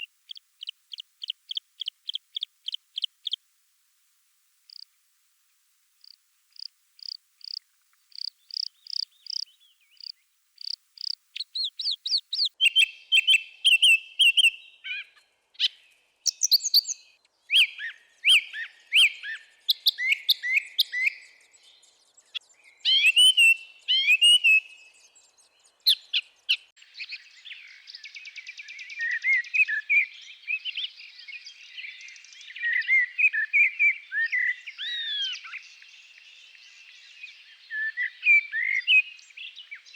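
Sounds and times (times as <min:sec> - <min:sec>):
wild birds singing: 0:00.0 - 0:03.5, 0:04.6 - 0:05.0, 0:05.9 - 0:39.9.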